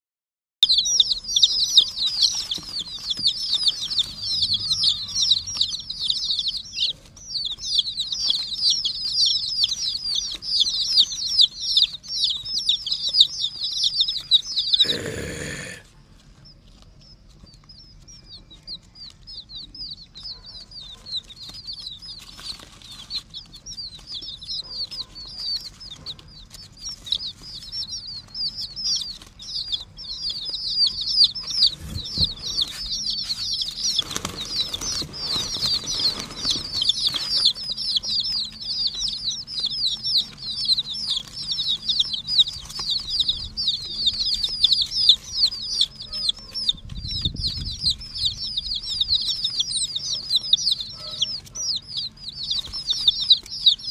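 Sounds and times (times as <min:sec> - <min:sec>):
chicks peeping: 0:00.6 - 0:53.9.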